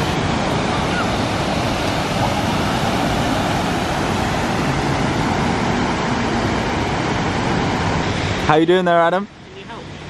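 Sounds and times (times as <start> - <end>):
wind on microphone: 0.0 - 8.5
waterfall rushing into pool: 0.0 - 9.2.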